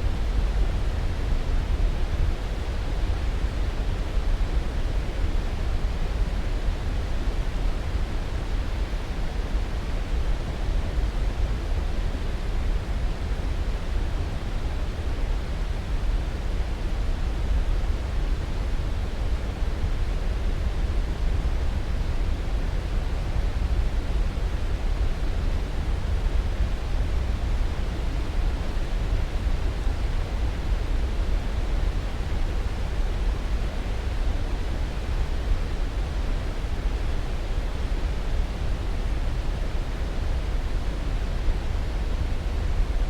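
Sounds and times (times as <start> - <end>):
steady low hiss: 0.0 - 43.0.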